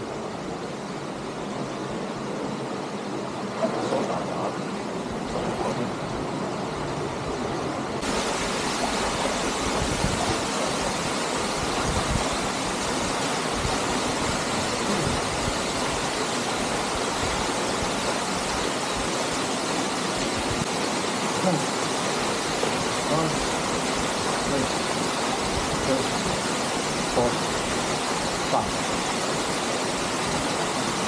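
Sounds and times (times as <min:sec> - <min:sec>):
waterfall and river rushing: 0:00.0 - 0:31.0.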